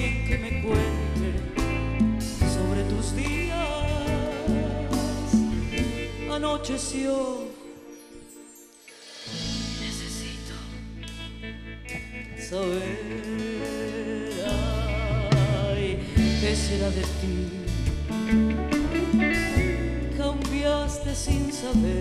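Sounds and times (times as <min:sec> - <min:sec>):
bass guitar: 0:00.0 - 0:07.6, 0:09.2 - 0:22.0
drums: 0:00.0 - 0:07.6, 0:08.6 - 0:22.0
woman singing a ballad: 0:00.0 - 0:07.9, 0:08.9 - 0:11.4, 0:12.3 - 0:22.0.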